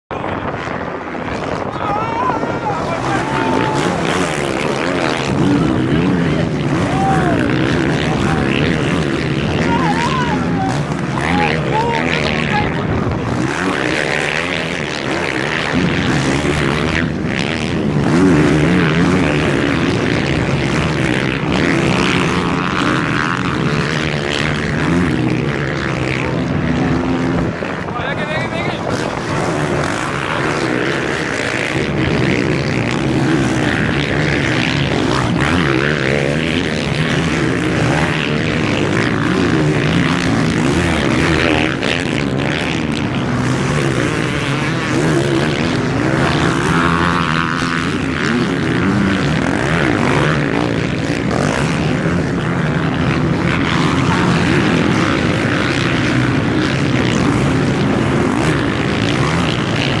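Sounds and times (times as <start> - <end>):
off-road motorcycle engines revving: 0.1 - 60.0.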